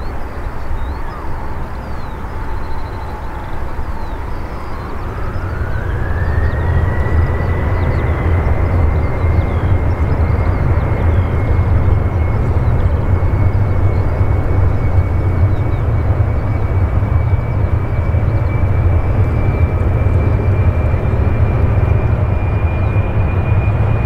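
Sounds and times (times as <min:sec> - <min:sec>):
deep engine rumble: 0:00.0 - 0:24.0
jet engine whine: 0:00.0 - 0:24.0.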